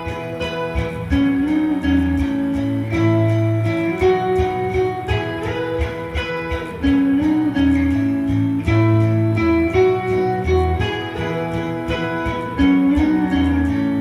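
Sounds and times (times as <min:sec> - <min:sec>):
guitar-led background music: 0:00.0 - 0:14.0.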